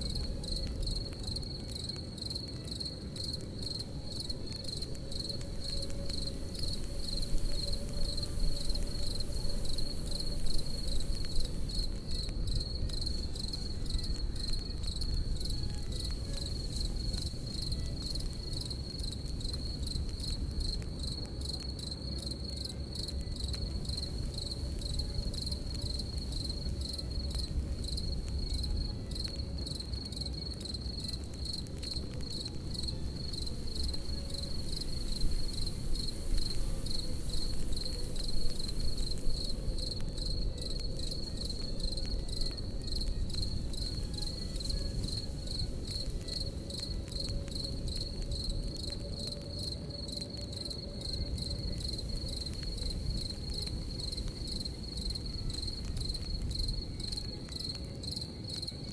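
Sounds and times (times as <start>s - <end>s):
campfire crackling: 0.0s - 58.9s
crickets chirping: 0.0s - 58.9s.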